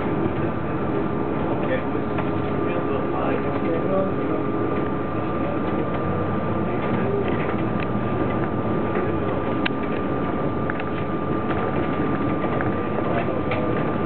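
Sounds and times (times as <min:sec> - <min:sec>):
bus engine running: 0:00.0 - 0:14.0
constant high whine: 0:00.0 - 0:14.0.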